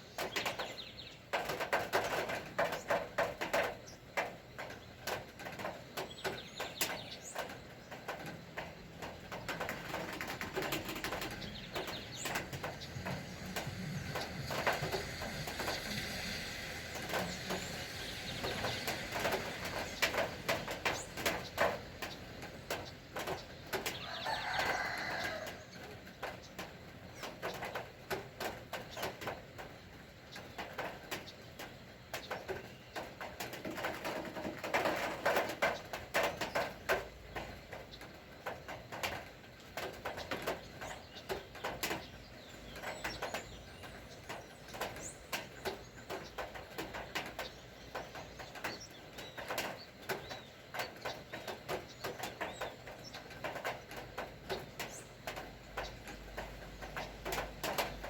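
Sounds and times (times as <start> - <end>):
birds calling: 0.0 - 58.0
rain dripping: 0.0 - 58.0.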